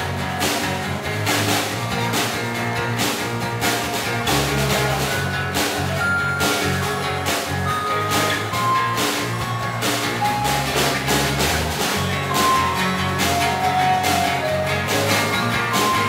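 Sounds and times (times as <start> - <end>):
acoustic guitars strumming: 0.0 - 16.0
keyboard melody: 1.3 - 16.0
snare drum: 3.0 - 16.0.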